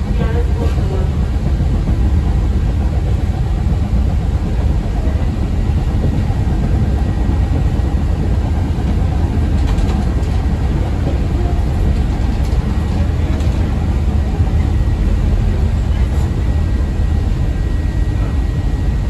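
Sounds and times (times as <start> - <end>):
train car rumbling on track: 0.0 - 19.0.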